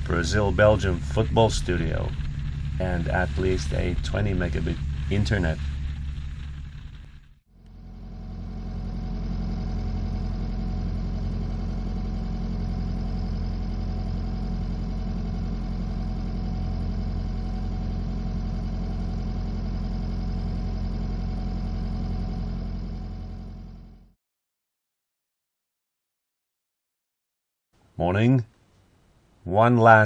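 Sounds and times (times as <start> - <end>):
diesel engine running: 0.0 - 24.2.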